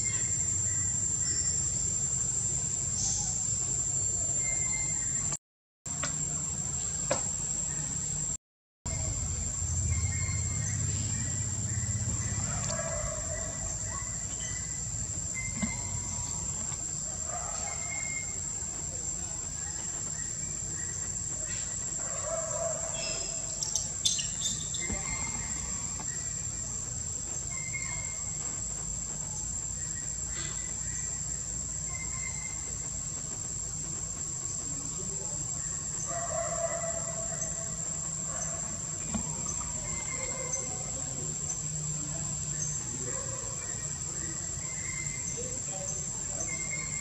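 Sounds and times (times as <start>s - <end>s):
high-pitched insect drone: 8.9s - 47.0s.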